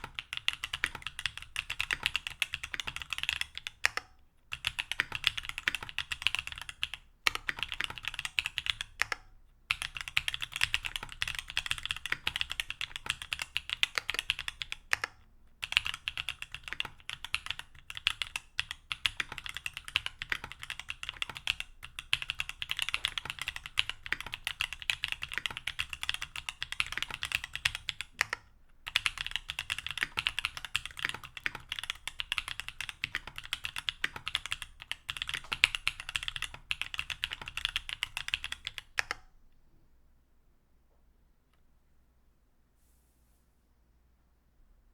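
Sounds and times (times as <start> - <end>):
fast typing on mechanical keyboard: 0.0 - 39.2.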